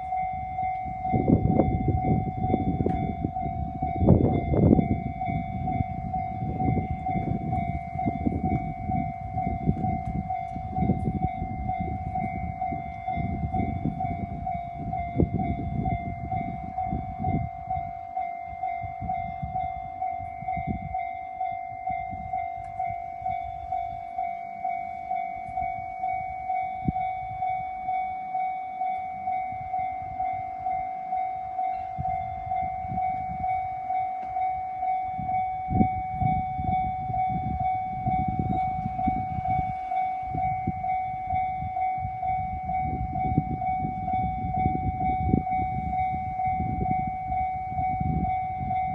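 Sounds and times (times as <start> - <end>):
passenger train rumbling: 0.0 - 48.9
railroad crossing bell ringing: 0.0 - 48.9.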